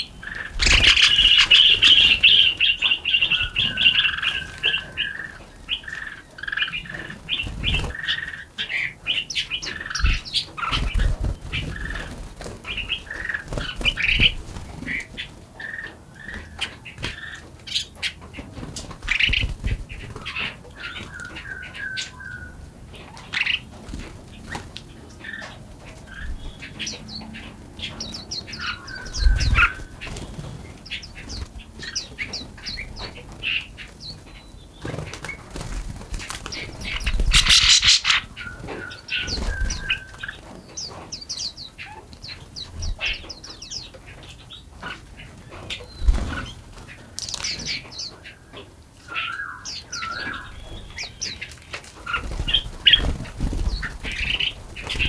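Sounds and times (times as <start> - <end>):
wings fluttering: 0.0 - 48.2, 50.0 - 55.0
songbirds chirping and singing: 0.0 - 55.0.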